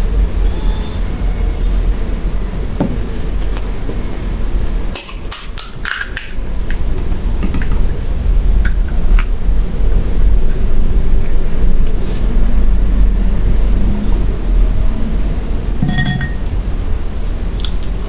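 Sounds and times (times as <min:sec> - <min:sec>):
steady low rumble: 0:00.0 - 0:05.0, 0:06.4 - 0:18.0.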